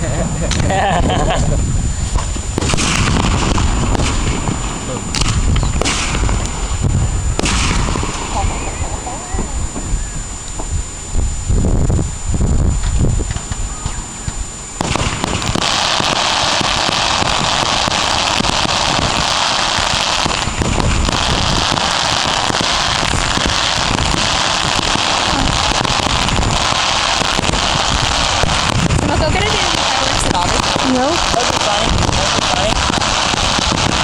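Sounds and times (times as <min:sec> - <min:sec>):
fireworks crackling: 0:00.0 - 0:34.0
low rumble: 0:00.0 - 0:34.0.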